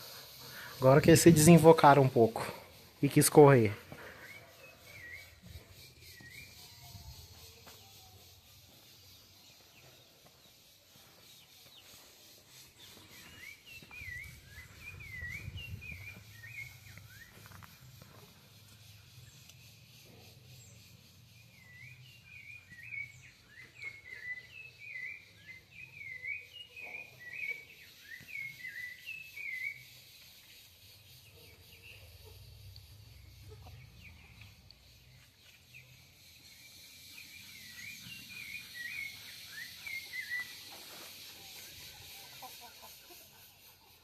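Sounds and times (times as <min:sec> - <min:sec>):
faint outdoor background noise: 0:00.0 - 0:44.0
small bird chirping: 0:00.0 - 0:44.0.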